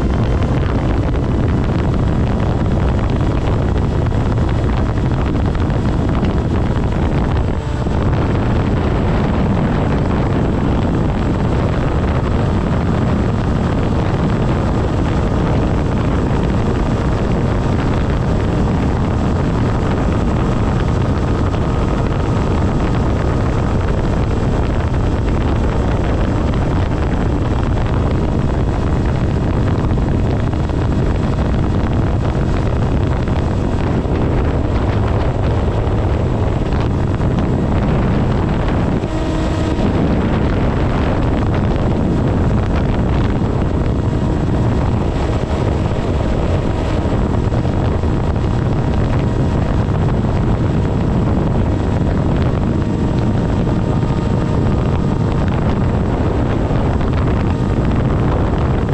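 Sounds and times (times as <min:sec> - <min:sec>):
electric motor and propeller whine: 0:00.0 - 0:58.9
wind rushing over microphone: 0:00.0 - 0:58.9.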